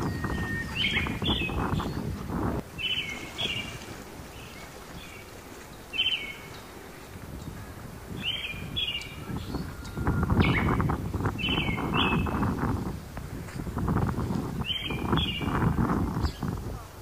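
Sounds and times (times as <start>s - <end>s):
songbird chirping: 0.0s - 13.1s, 14.2s - 16.9s.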